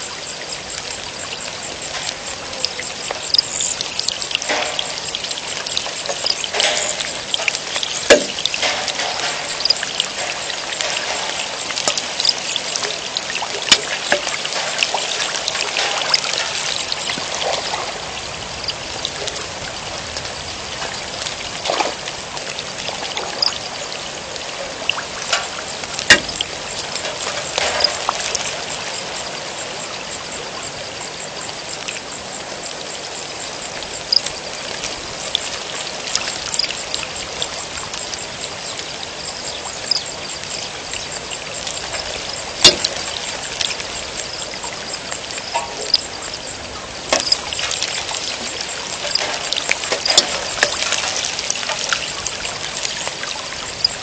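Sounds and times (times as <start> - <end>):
sharp water drops: 0.0 - 30.3, 33.3 - 54.0
rain falling: 0.0 - 54.0
water pouring and trickling: 0.0 - 54.0.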